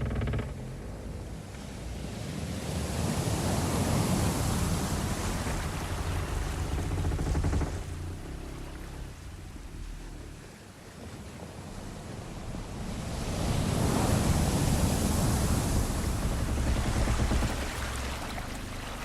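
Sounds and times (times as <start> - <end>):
sea waves surf: 0.1 - 19.0.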